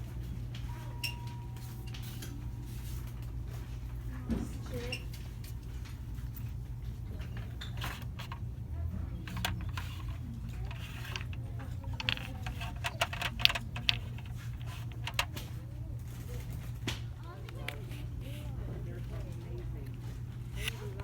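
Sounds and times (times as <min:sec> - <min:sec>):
low store hum: 0:00.0 - 0:21.0
clicks and clinks of merchandise: 0:00.5 - 0:03.7, 0:04.3 - 0:18.4.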